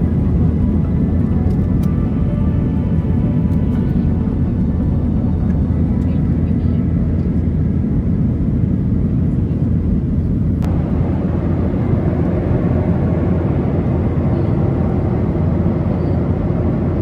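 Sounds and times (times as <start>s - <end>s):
airplane cabin engine noise: 0.0s - 17.0s.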